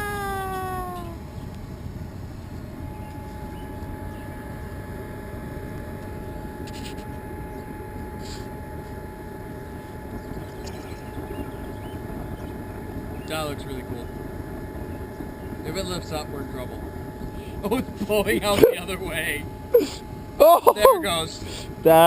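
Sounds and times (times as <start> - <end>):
faint thin whine: 0.0 - 22.0
furnace burning with rushing noise: 0.0 - 22.0.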